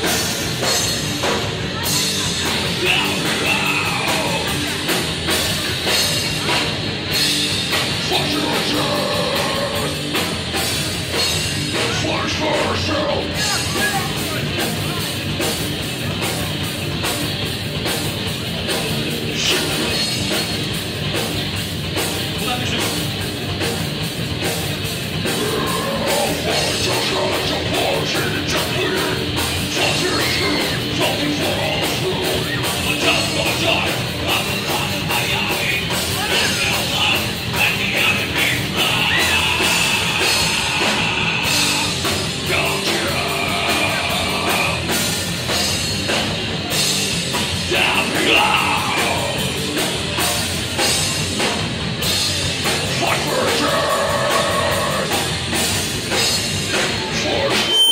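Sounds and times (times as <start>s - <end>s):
metal band playing live: 0.0s - 57.9s
yelled vocals: 0.0s - 57.9s.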